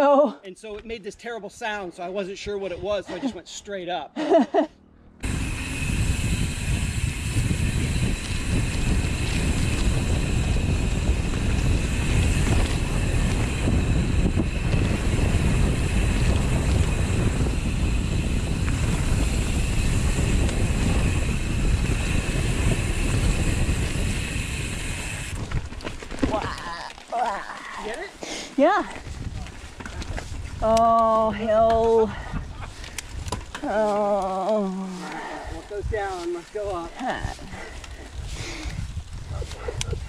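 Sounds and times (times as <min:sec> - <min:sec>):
bike rumbling over trail: 0:04.8 - 0:40.0
wind buffeting microphone: 0:05.2 - 0:28.0, 0:28.6 - 0:40.0.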